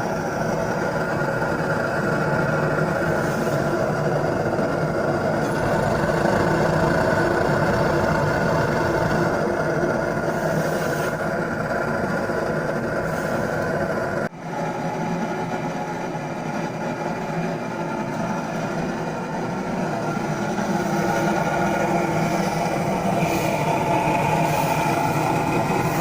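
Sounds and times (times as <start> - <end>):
burner hiss: 0.0 - 14.9, 18.0 - 26.0
furnace burner hum: 0.0 - 26.0.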